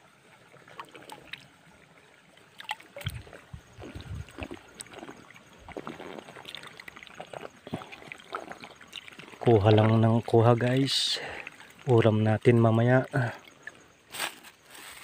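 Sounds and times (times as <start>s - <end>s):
pond water splashing: 0.0s - 15.0s.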